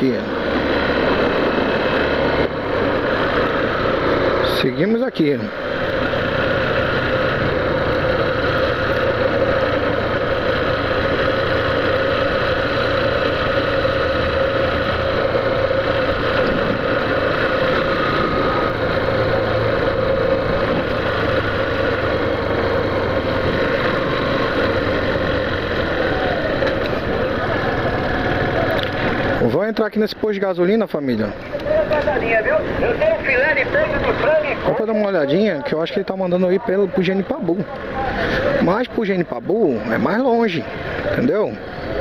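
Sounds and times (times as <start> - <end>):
motorcycle engine cruising: 0.0 - 42.0
road noise: 0.0 - 42.0.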